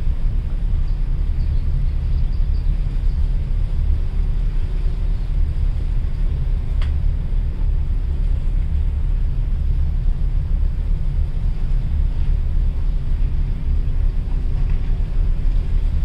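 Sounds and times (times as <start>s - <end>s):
low rumble: 0.0s - 16.0s
wind buffeting microphone: 0.0s - 16.0s.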